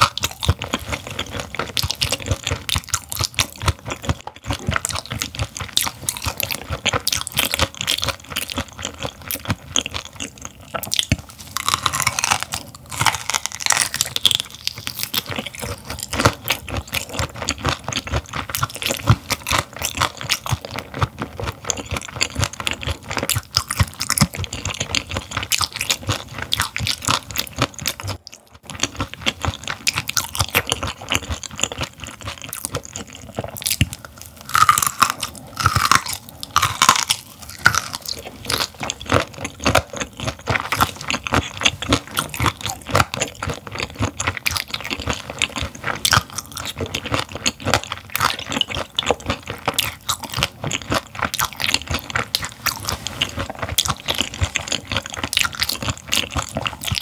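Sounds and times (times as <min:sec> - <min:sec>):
wet crunching chewing: 0:00.0 - 0:57.0.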